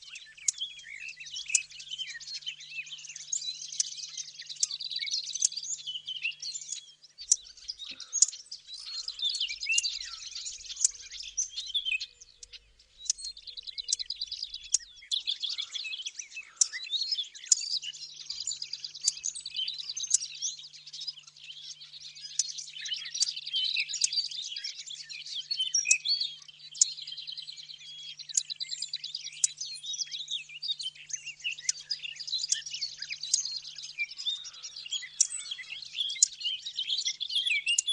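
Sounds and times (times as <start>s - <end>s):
warbler songs twittering: 0.0s - 37.9s.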